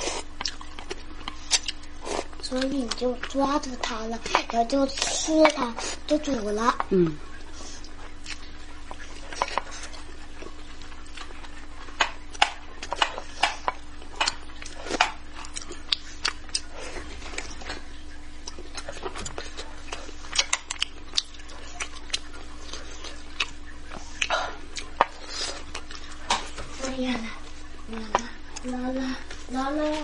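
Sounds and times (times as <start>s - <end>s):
wet chewing smacks: 0.0s - 3.4s, 6.7s - 29.4s.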